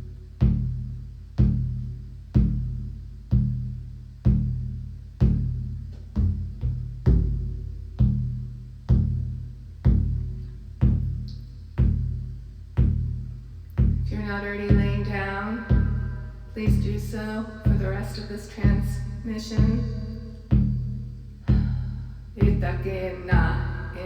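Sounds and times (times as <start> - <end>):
deep drum beats: 0.0 - 24.0.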